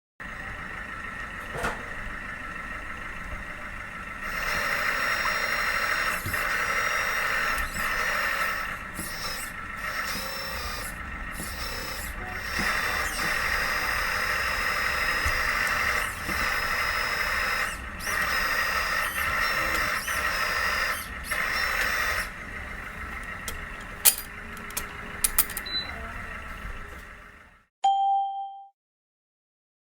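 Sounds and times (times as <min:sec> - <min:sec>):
hydraulic pump whining: 0:00.2 - 0:27.6.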